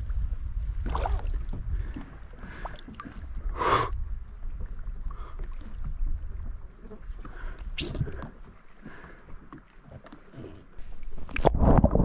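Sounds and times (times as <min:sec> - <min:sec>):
water sloshing and lapping: 0:00.0 - 0:12.0.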